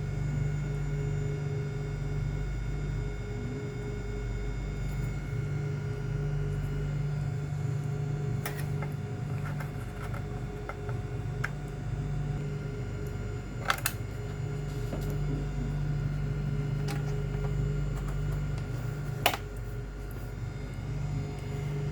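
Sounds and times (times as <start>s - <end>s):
steady mechanical hum: 0.0s - 21.9s.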